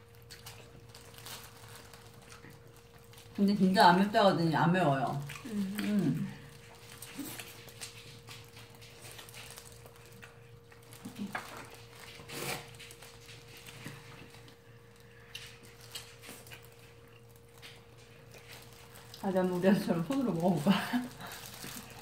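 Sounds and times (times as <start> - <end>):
people chewing and eating: 0.0 - 22.0.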